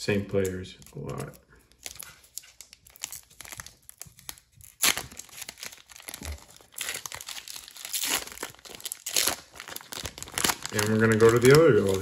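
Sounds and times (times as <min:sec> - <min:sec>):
foil crinkling: 0:00.9 - 0:12.0
foil wrapper ripping: 0:01.0 - 0:12.0.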